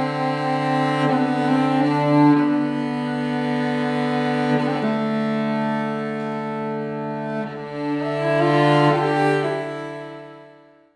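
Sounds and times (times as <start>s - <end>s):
cello playing bowed notes: 0.0s - 10.8s.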